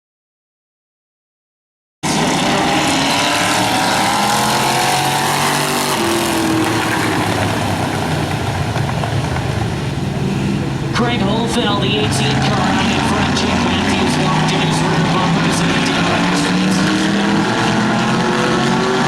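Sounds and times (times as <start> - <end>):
race car engines revving: 2.0 - 19.0.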